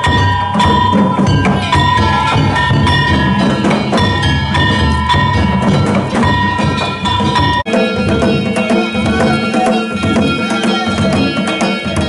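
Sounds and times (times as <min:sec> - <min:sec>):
drum beaten in quick rhythm: 0:00.0 - 0:12.0
hand gongs clanging: 0:00.0 - 0:12.0.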